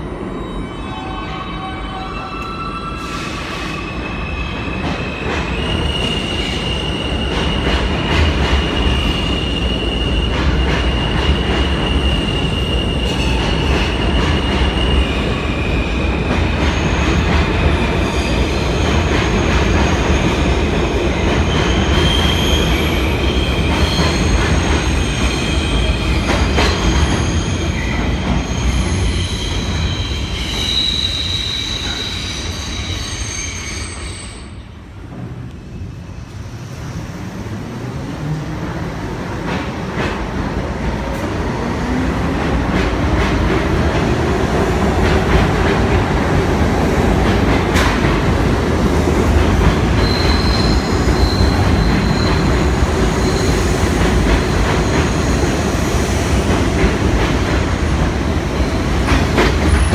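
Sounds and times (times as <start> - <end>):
subway train rumble: 0.0 - 59.9.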